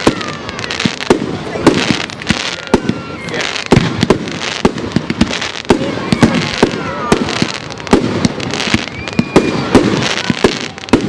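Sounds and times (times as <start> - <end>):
firework bangs: 0.0 - 11.0
firework crackle: 0.0 - 11.0.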